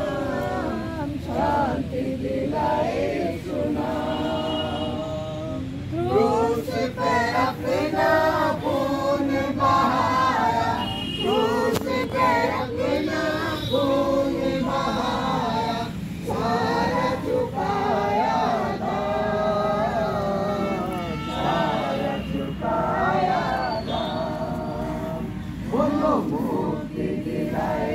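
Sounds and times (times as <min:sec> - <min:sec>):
congregation singing a hymn: 0:00.0 - 0:27.9.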